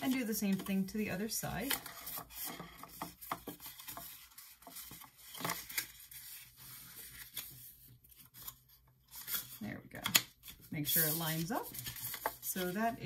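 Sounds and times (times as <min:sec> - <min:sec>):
card rustling: 0:00.0 - 0:09.6, 0:10.4 - 0:13.0.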